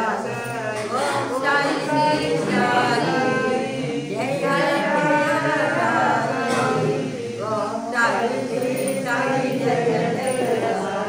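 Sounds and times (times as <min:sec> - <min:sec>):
voices chanting a hymn: 0:00.0 - 0:11.0.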